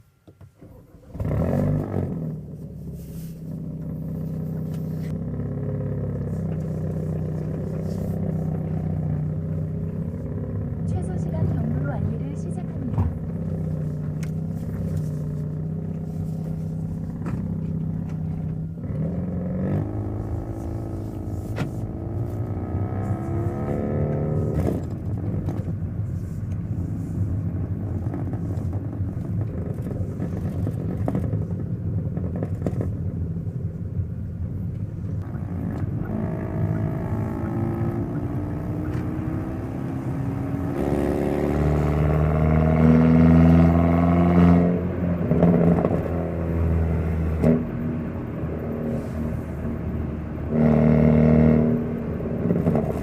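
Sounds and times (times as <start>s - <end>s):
car engine and exhaust revving: 0.0s - 53.0s.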